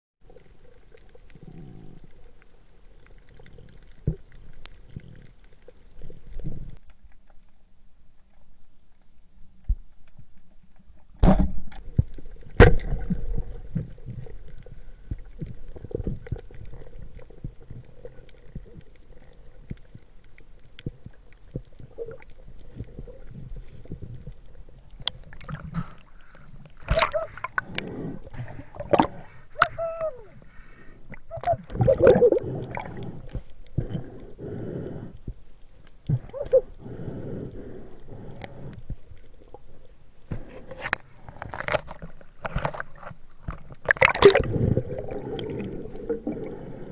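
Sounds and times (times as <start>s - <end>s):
water gurgling and sloshing: 0.2s - 7.4s, 10.0s - 46.9s.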